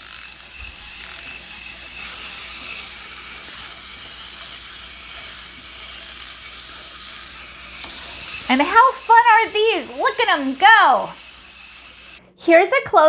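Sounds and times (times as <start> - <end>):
clockwork gears whirring: 0.0 - 12.2
winding key ratchet clicks: 0.0 - 12.2.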